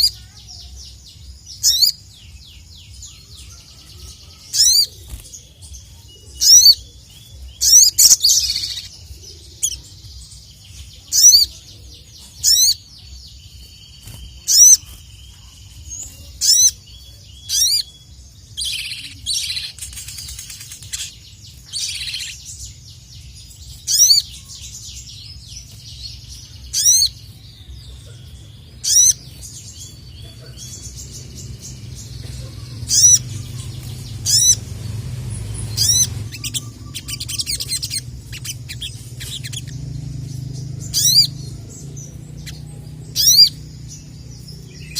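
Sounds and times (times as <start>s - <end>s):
bird singing high calls: 0.0s - 44.9s.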